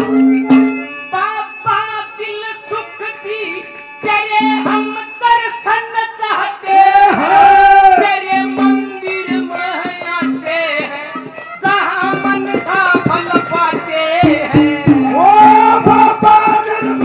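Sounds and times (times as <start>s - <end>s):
drum accompaniment: 0.0s - 17.0s
man singing into microphone: 1.1s - 17.0s.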